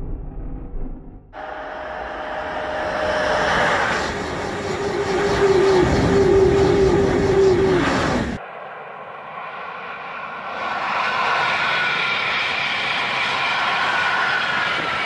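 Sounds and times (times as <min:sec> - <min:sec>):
train whine: 0:00.0 - 0:15.0
high-speed train passing: 0:01.4 - 0:15.0.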